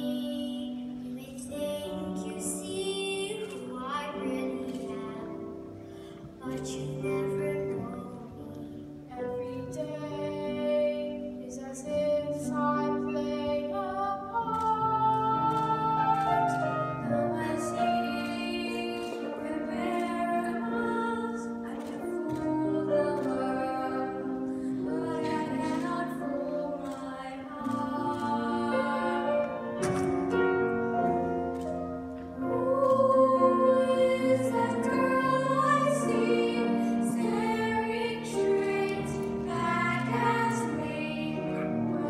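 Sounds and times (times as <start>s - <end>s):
girls singing slow song: 0.0s - 42.0s
instrumental accompaniment: 0.0s - 42.0s.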